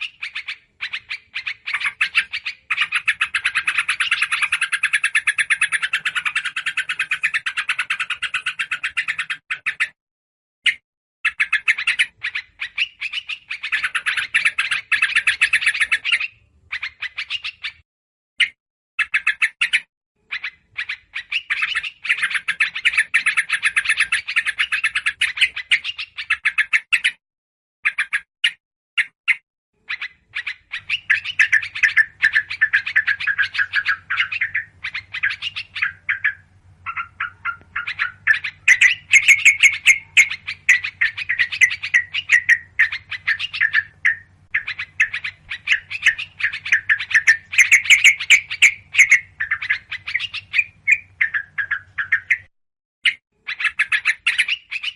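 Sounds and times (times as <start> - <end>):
songbirds chattering: 0.0 - 10.0, 10.7 - 17.8, 18.4 - 27.2, 27.9 - 54.9.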